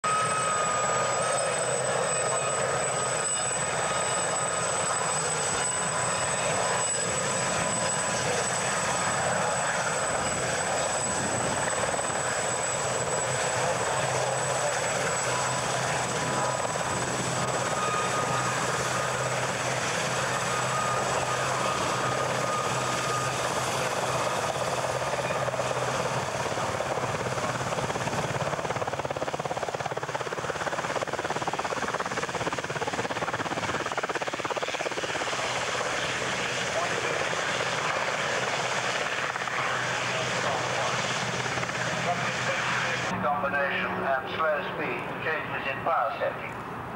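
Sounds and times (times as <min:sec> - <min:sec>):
helicopter hovering: 0:00.0 - 0:46.9.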